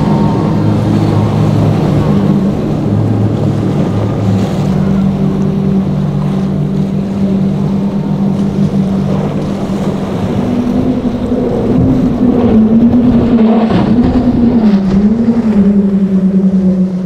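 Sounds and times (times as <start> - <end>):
outboard motors droning: 0.0 - 17.0
water rushing along hull: 0.0 - 17.0.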